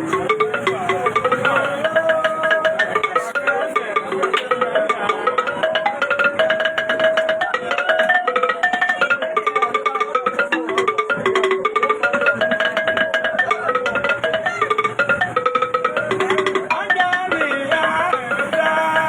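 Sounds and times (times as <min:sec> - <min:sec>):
fast melody of struck notes: 0:00.0 - 0:19.0
quick dense beat: 0:00.0 - 0:19.0.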